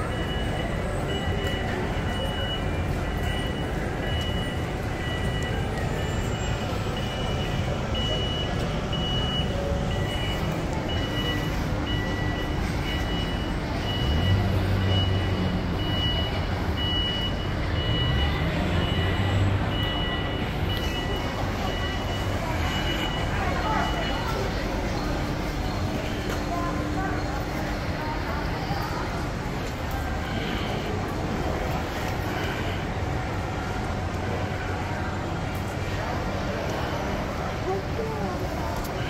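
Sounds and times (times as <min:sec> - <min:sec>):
shopping mall background noise: 0:00.0 - 0:39.0.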